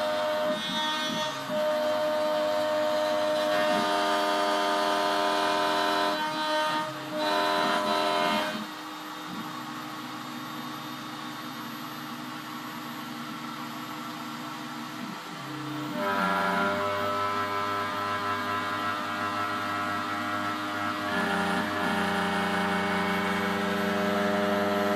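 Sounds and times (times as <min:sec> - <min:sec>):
router spindle whine: 0:00.0 - 0:24.9.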